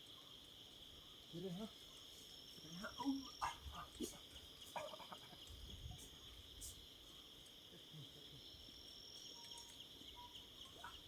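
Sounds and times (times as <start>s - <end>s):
insect chorus trill: 0.0s - 11.0s.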